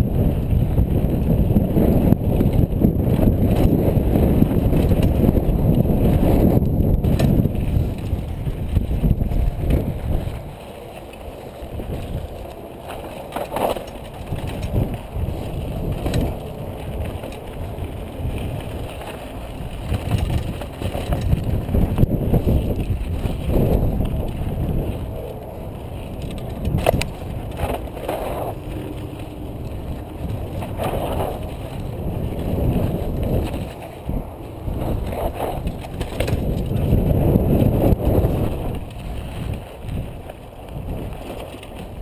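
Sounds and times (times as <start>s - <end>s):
bike rattling: 0.0s - 42.0s
tyres rumbling over dirt and rocks: 0.0s - 42.0s
wind on microphone: 0.0s - 42.0s.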